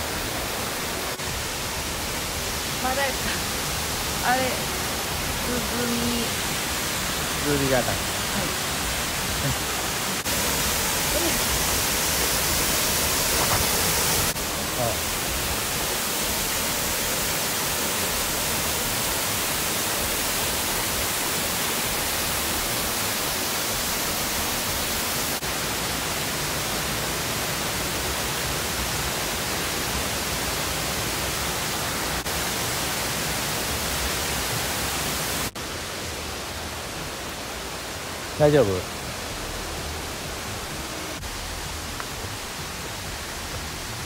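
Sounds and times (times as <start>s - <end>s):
water rushing in a stream: 0.0s - 44.0s.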